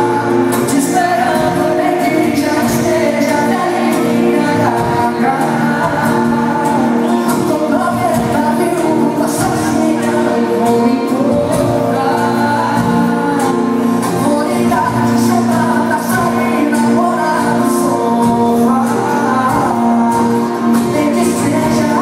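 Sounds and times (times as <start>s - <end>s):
live band music with singing: 0.0s - 22.0s.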